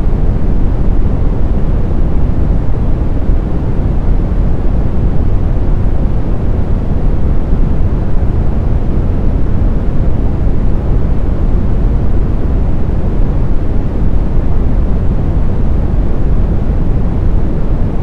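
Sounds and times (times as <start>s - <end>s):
brown noise: 0.0s - 18.0s.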